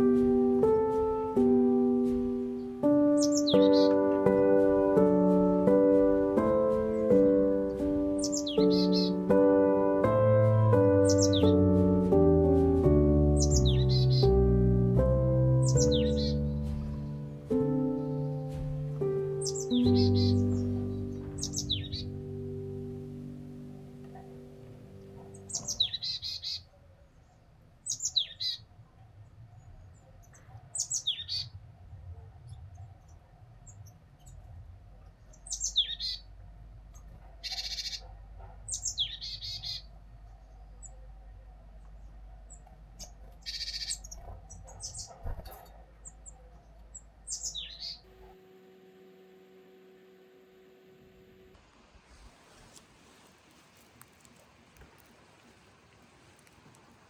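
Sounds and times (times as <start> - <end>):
small birds chirping: 0.0 - 28.7, 29.6 - 31.6, 32.5 - 51.5.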